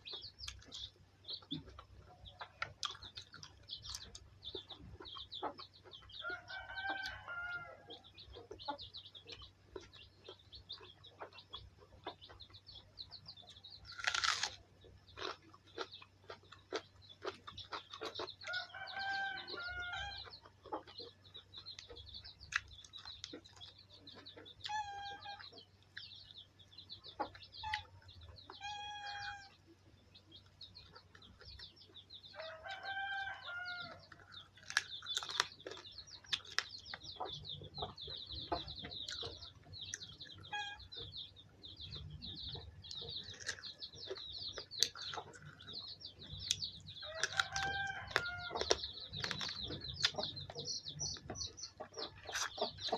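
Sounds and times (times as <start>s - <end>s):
chickens calling: 0.0s - 52.9s
high chirping: 0.0s - 52.9s.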